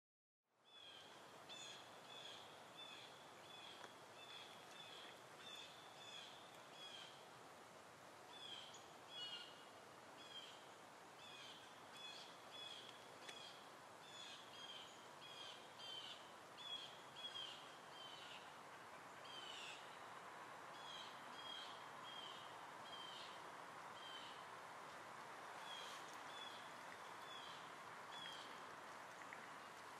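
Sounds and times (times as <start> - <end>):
soft outdoor hiss: 0.5 - 29.9
wild birds singing faintly: 0.5 - 29.9.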